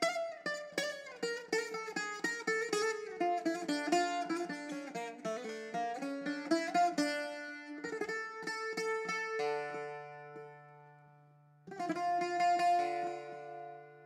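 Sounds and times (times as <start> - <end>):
plucked string instrument: 0.0 - 14.0.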